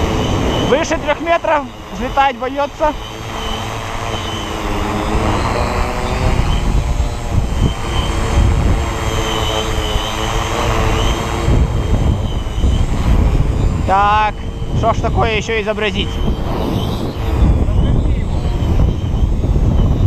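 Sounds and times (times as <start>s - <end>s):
drone propellers whining: 0.0s - 20.0s
wind buffeting microphone: 0.0s - 20.0s.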